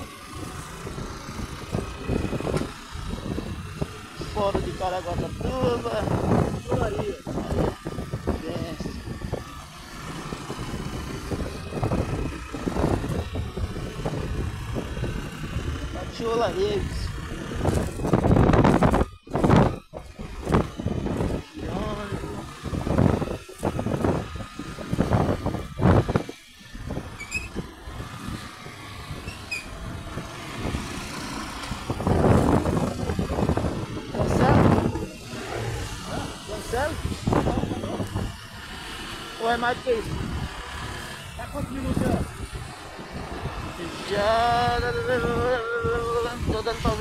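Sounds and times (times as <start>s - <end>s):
motorcycle engine rumble: 0.0s - 47.0s
road noise: 0.0s - 47.0s
wind noise: 0.0s - 47.0s.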